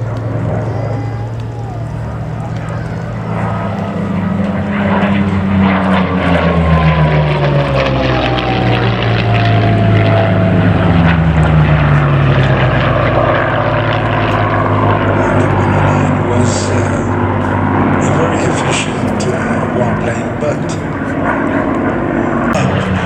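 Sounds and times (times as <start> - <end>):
propeller planes flying past: 0.0 - 23.0.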